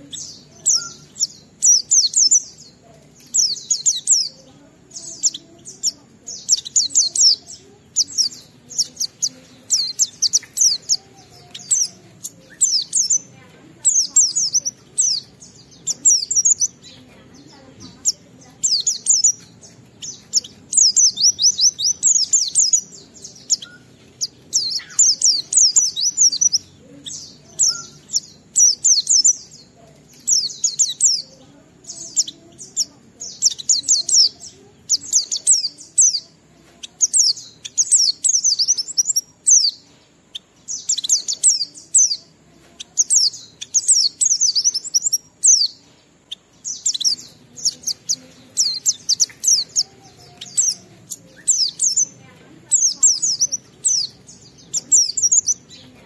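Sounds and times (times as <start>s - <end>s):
white-eye bird singing: 0.0s - 56.0s.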